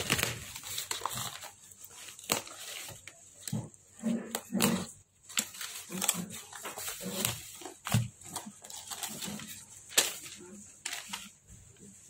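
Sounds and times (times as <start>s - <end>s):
paper unfolding: 0.0s - 3.6s, 4.3s - 11.9s
cardboard and bubble wrap rustling: 0.0s - 12.0s.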